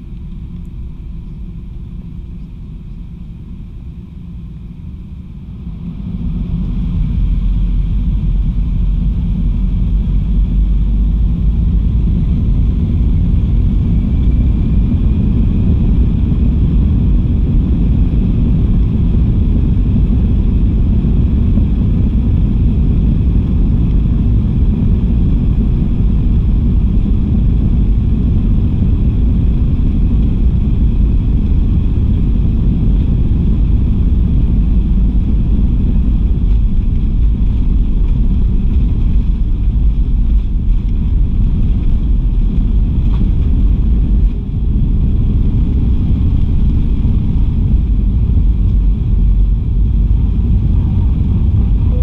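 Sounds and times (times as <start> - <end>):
high engine whine: 0.0 - 52.0
jet engines at takeoff: 0.0 - 52.0
wheels rumbling on runway: 0.0 - 52.0.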